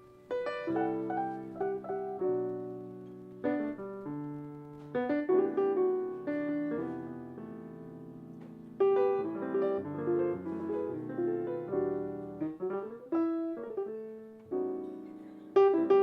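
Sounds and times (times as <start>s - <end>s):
jazz piano chords: 0.0s - 16.0s.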